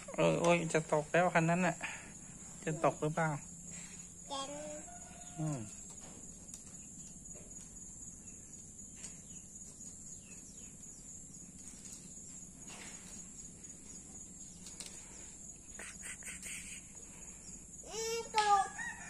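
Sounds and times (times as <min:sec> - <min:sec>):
high-pitched insect drone: 0:01.2 - 0:19.0.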